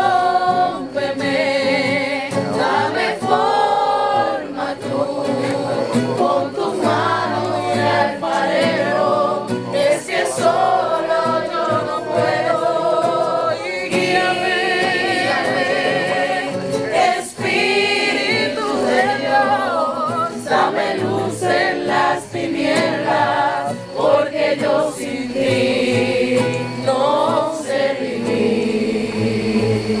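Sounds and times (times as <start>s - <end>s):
group singing worship song: 0.0s - 30.0s.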